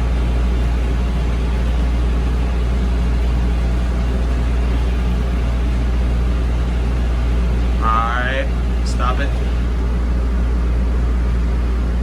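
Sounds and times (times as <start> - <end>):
large engine idling: 0.0 - 12.0.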